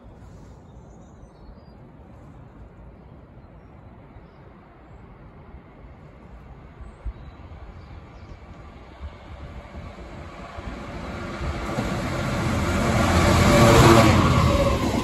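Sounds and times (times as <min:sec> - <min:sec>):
distant train rumble: 0:01.8 - 0:15.0.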